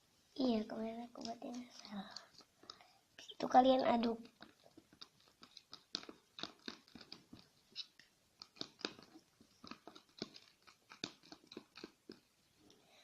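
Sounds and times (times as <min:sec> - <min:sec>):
sticky clicks of stirred glue: 0:00.8 - 0:12.9.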